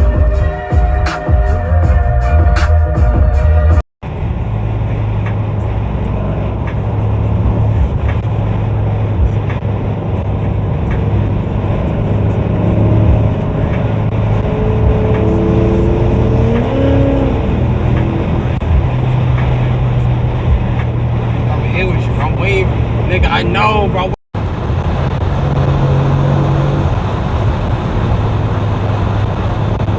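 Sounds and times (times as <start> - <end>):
car engine drone: 0.0 - 29.9
road noise: 3.6 - 29.9.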